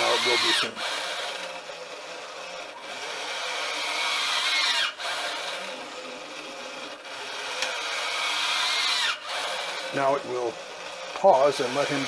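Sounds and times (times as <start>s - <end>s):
servo motor geared whine: 0.0s - 12.0s.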